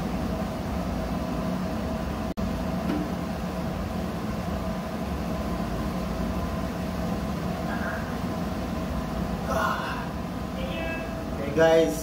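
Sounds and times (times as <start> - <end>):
machinery drone with hum tones: 0.0 - 12.0.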